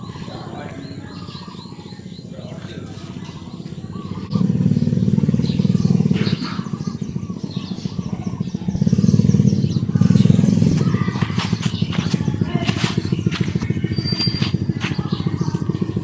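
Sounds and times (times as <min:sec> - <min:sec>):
faint high chirps: 0:00.0 - 0:16.0
motor running with low throb: 0:00.0 - 0:16.0.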